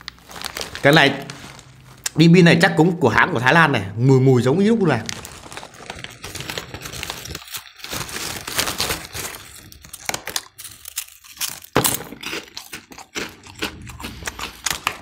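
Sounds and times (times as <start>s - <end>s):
crunchy snacks being chewed: 0.0s - 2.2s, 5.0s - 15.0s
foil snack bag crinkling: 0.0s - 2.3s, 4.4s - 15.0s.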